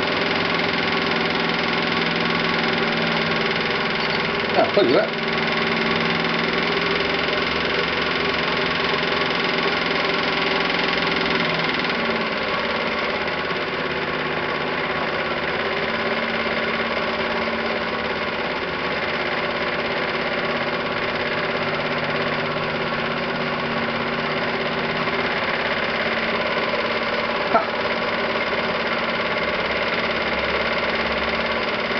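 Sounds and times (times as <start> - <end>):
model steam pump running: 0.0 - 31.9.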